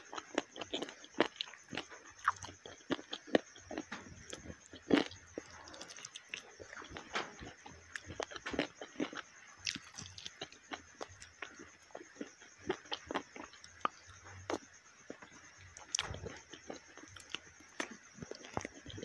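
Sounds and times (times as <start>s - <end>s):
wet chewing and lip smacking: 0.0s - 19.0s.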